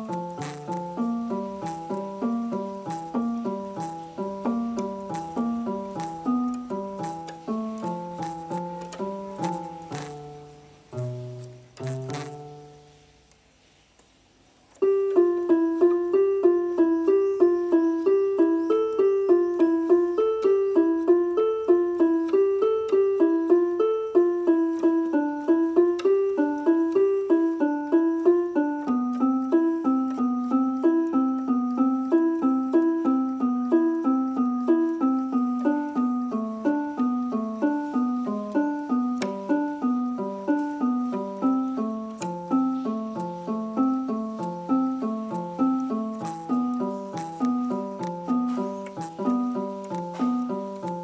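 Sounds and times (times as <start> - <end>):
electronic keyboard arpeggio: 0.0 - 13.0, 14.8 - 51.0.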